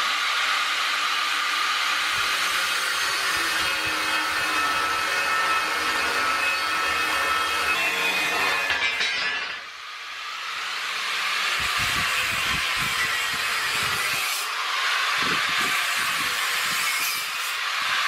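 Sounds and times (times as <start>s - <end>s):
angle grinder cutting steel: 0.0s - 18.0s.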